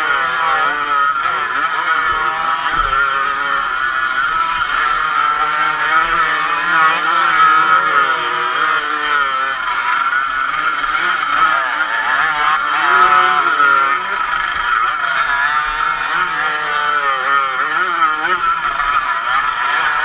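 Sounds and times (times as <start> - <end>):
motocross bike engine revving: 0.0 - 20.0
other motocross bike engines: 0.0 - 20.0.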